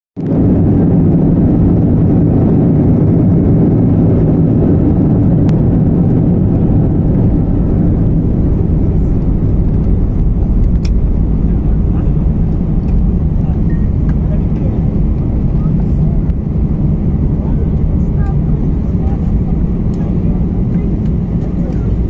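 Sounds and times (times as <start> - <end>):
airliner engines rumbling: 0.2 - 22.0
low hums: 0.2 - 22.0.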